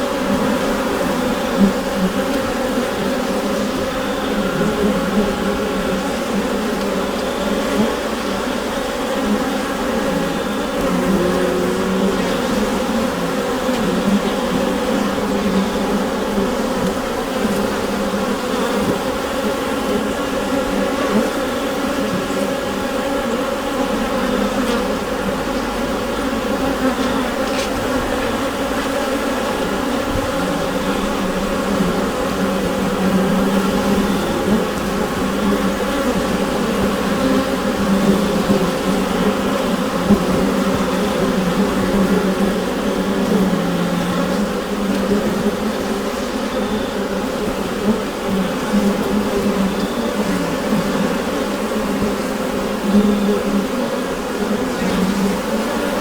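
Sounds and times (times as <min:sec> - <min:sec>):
honeybee colony buzzing: 0:00.0 - 0:56.0.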